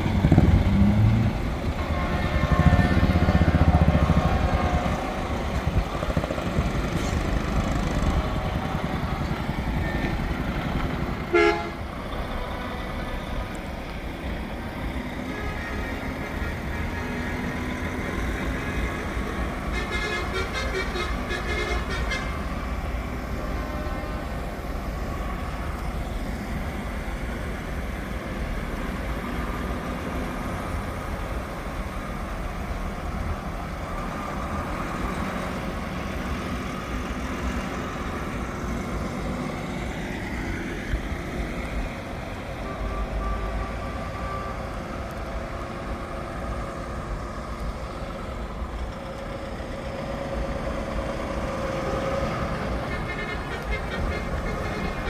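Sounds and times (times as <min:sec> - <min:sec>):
heavy trucks driving past: 0:00.0 - 0:55.0.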